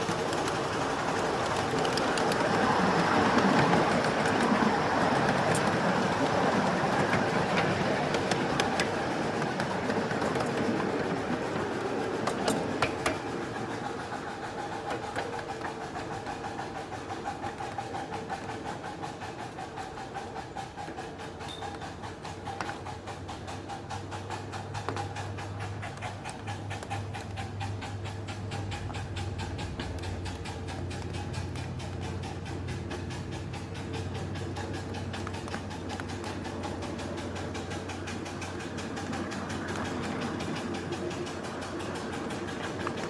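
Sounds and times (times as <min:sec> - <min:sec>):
miniature train running: 0:00.0 - 0:43.0
wheels clicking over rail joints: 0:00.0 - 0:43.0.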